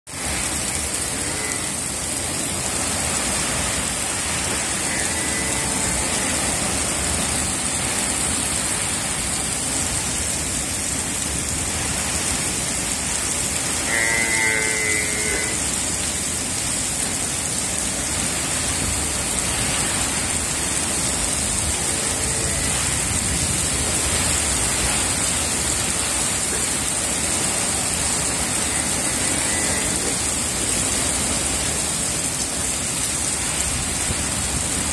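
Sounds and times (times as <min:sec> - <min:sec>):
heavy rain pouring on ground: 0:00.0 - 0:34.9.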